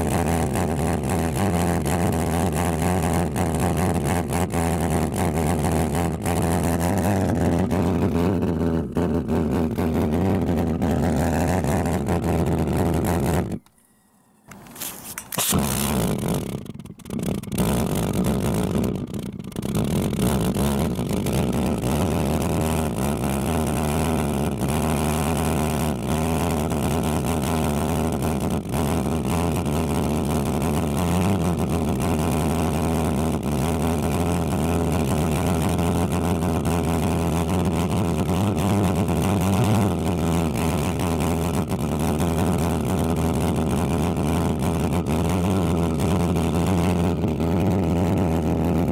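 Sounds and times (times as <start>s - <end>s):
pulse jet deep buzzing drone: 0.0s - 48.9s.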